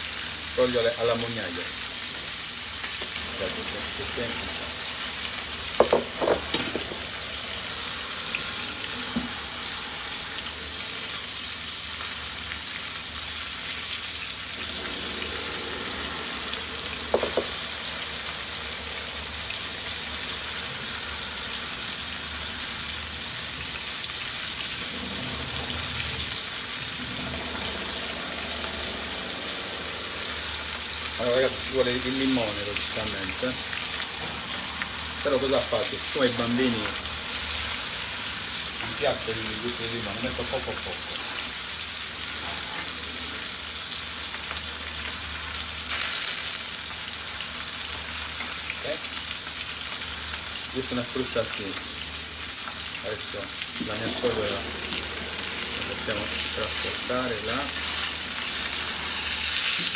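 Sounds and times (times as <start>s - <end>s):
fish sizzling in pans: 0.0s - 59.9s.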